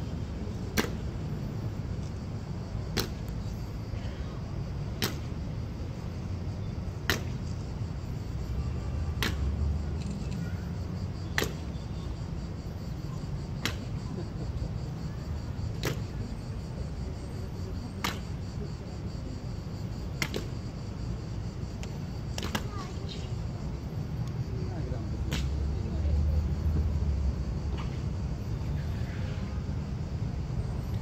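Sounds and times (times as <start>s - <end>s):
low traffic rumble: 0.0s - 31.0s.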